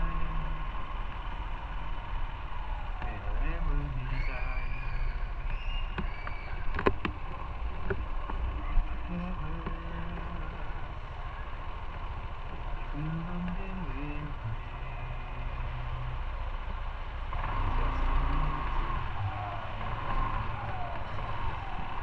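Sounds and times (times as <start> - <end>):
motorcycle engine rumble: 0.0 - 22.0
wind: 0.0 - 22.0.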